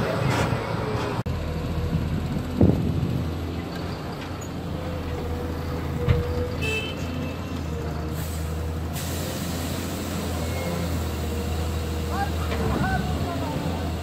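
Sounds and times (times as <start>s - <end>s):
dump truck engine running: 0.0s - 14.0s
excavator diesel engine running: 0.0s - 14.0s.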